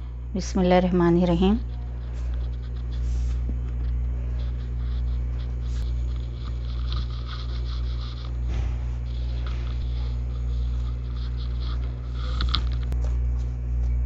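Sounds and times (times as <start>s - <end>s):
steady low hum: 0.0s - 14.0s
knife scraping through dough: 1.2s - 12.9s.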